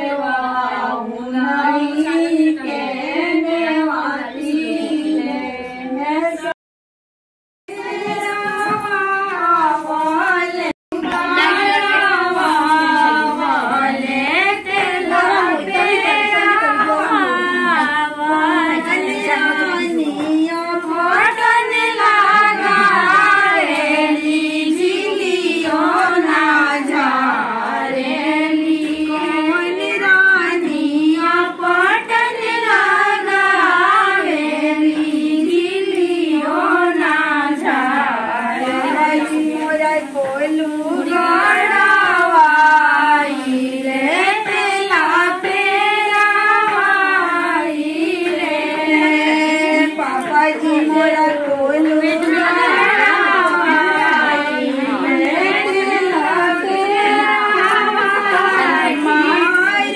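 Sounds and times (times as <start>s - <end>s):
woman singing unaccompanied: 0.0s - 6.6s, 7.7s - 59.9s.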